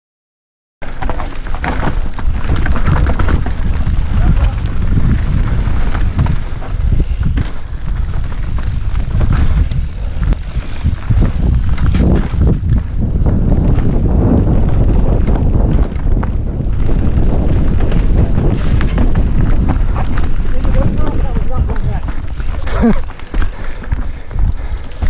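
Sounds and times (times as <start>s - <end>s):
bike knocking and rattling: 0.8s - 25.0s
wind on microphone: 1.7s - 25.0s.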